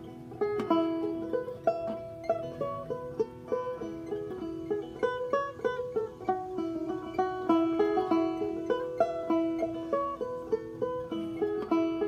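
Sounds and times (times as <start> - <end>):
banjo picking: 0.0 - 12.0.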